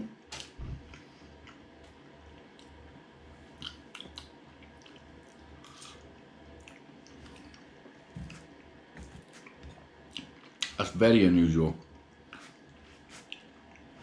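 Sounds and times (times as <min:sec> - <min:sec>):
low steady hum: 0:00.0 - 0:14.0
person chewing: 0:00.4 - 0:02.8, 0:03.6 - 0:10.8, 0:12.2 - 0:14.0.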